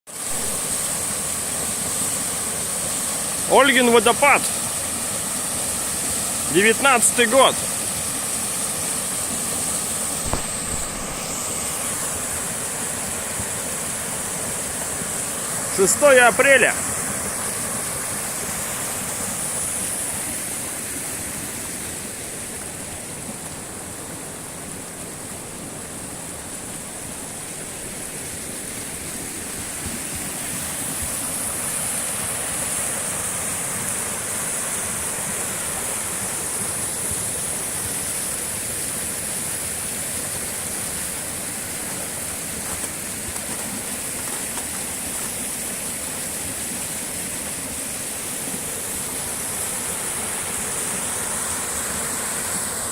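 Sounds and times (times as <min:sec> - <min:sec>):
waterfall rushing: 0:00.1 - 0:52.9.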